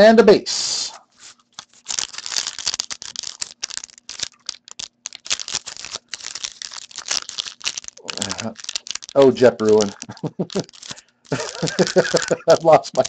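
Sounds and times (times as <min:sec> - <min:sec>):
foil wrapper crinkling and tearing: 0:01.1 - 0:13.0.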